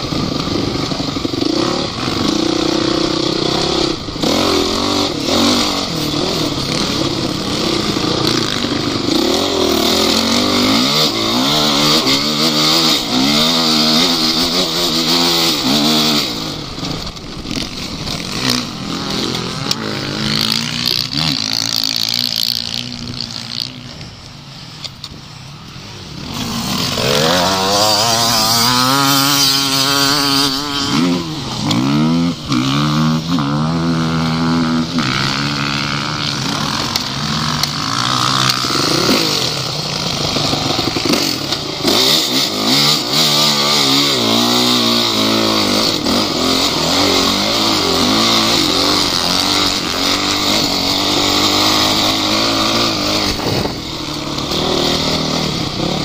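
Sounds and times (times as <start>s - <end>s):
off-road vehicle engine revving: 0.0s - 24.1s, 26.2s - 56.0s.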